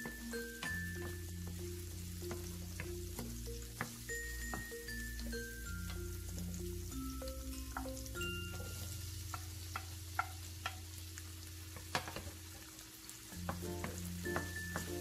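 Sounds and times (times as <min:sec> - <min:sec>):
soft background music: 0:00.0 - 0:11.7, 0:12.4 - 0:15.0
vegetables sizzling in oil: 0:00.0 - 0:15.0.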